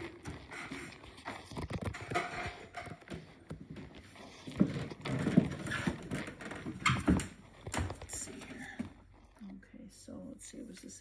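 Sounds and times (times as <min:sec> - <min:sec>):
footsteps on wooden floor: 0:00.0 - 0:09.0.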